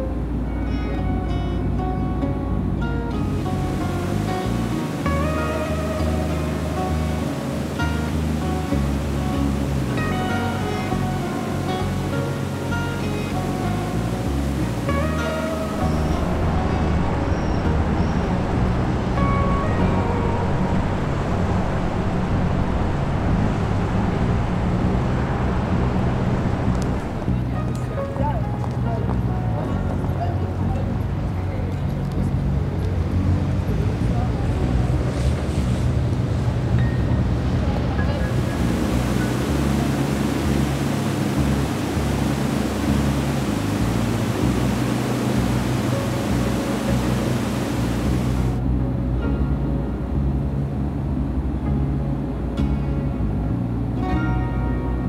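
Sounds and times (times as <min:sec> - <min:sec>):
engine drone: 0:00.0 - 0:28.6, 0:37.6 - 0:54.6
calm background music: 0:00.0 - 0:55.0
constant rushing noise: 0:02.5 - 0:49.0.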